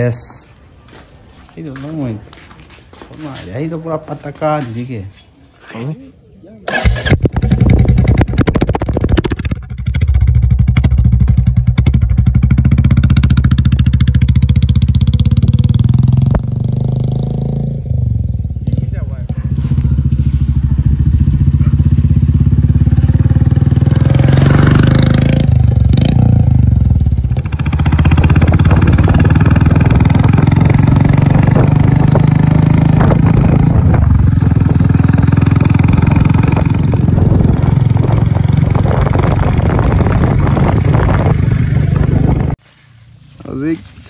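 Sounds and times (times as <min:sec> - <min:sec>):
loud motorcycle engine running: 0:06.7 - 0:42.6.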